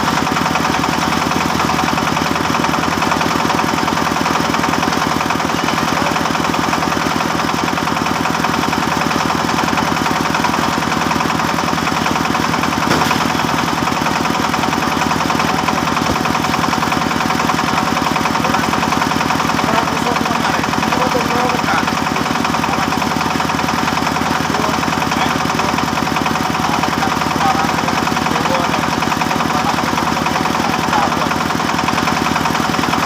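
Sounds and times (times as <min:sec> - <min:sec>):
engine-driven wood saw chugging: 0:00.0 - 0:33.0.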